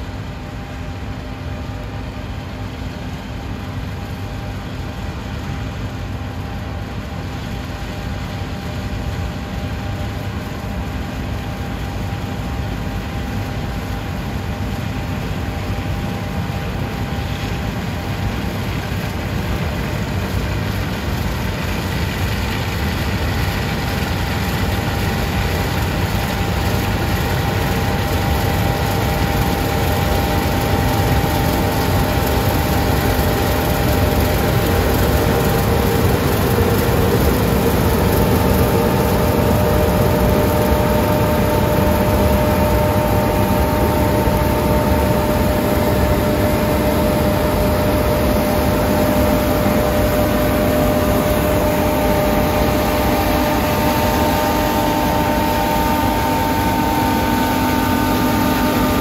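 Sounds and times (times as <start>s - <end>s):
combine harvester engine drone: 0.0s - 59.0s
constant machinery whine: 0.0s - 59.0s.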